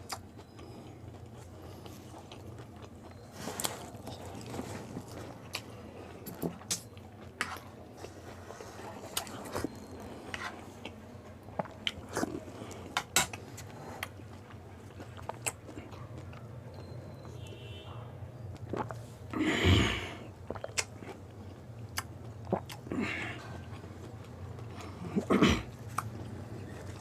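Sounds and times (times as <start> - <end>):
crunching and chewing food: 0.0 - 17.7, 18.4 - 19.3, 20.0 - 27.0
low steady hum: 0.0 - 27.0.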